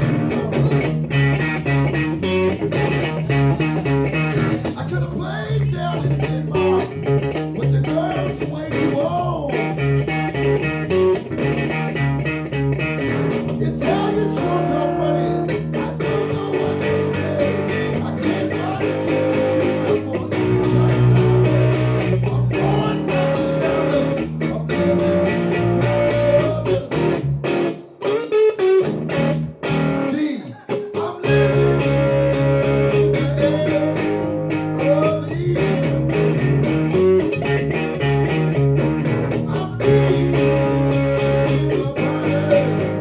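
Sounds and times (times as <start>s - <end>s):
electric bass: 0.0s - 27.9s, 28.7s - 30.1s, 31.3s - 43.0s
electric guitar: 0.0s - 43.0s.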